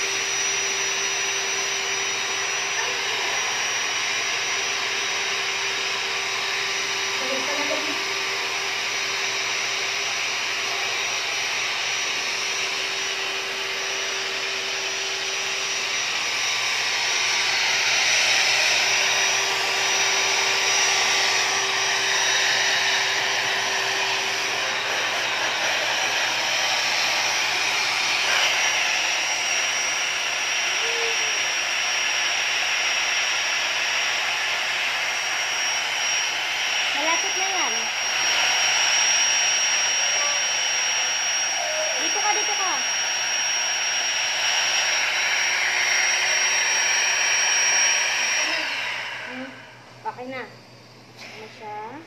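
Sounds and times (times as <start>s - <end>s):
electric air pump whirring: 0.0s - 52.0s.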